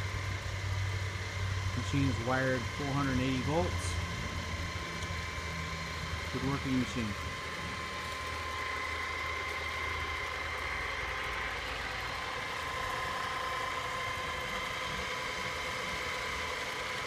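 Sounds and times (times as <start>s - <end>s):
high whine: 0.0s - 16.6s
drill press motor hum: 0.0s - 17.0s.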